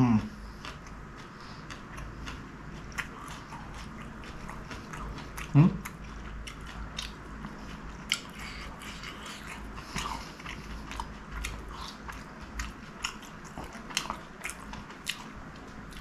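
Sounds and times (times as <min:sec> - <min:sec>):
chewing with moist mouth clicks: 0:00.0 - 0:16.0.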